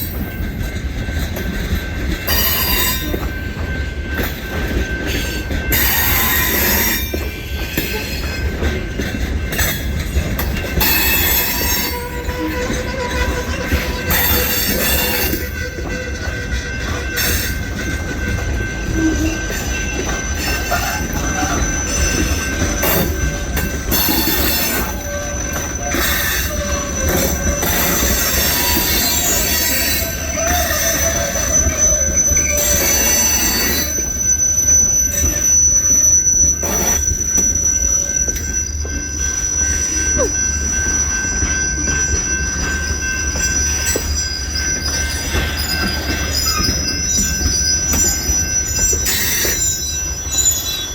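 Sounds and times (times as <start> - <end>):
freight train rumbling past: 0.0 - 50.9
steel wheels squealing on rail: 0.0 - 50.9.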